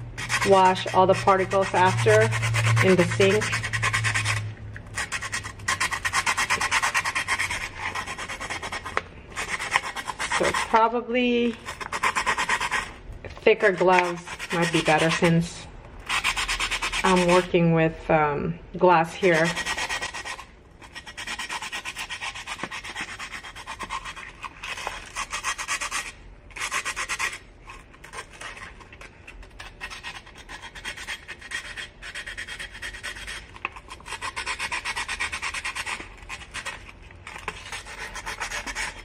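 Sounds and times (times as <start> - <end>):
sandpaper scratching on glass: 0.0 - 17.5, 19.2 - 39.0.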